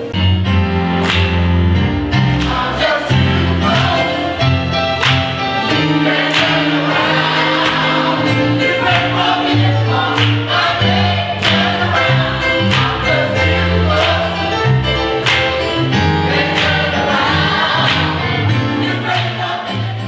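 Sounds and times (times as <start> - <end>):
band playing: 0.0 - 19.9
choir singing: 2.2 - 20.0.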